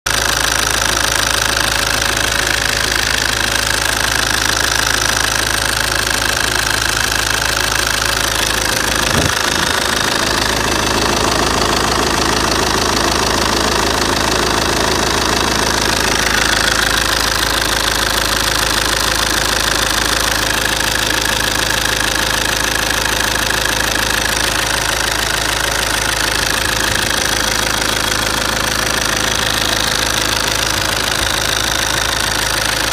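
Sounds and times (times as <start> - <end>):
diesel engine idling: 0.0 - 32.9
engine ticking: 0.0 - 32.9.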